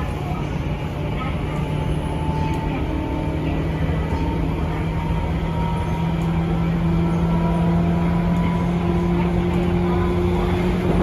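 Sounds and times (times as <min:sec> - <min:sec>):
electric train motor hum: 0:00.0 - 0:11.0
wheel and track rumble: 0:00.0 - 0:11.0.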